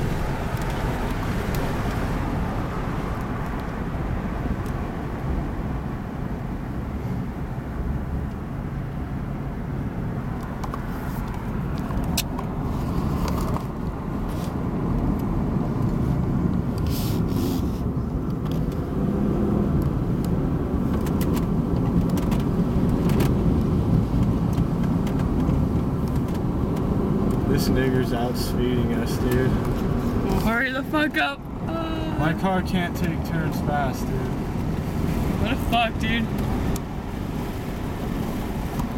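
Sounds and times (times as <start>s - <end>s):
car engine hum: 0.0s - 38.9s.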